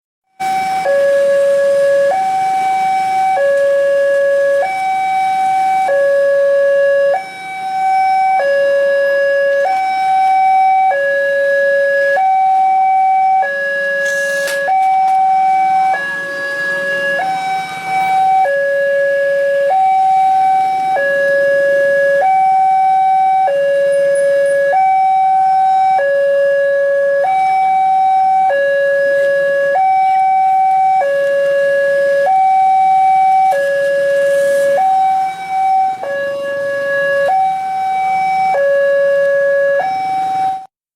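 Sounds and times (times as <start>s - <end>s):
passing vehicle: 0.4s - 40.6s
level-crossing two-tone alarm: 0.4s - 40.7s.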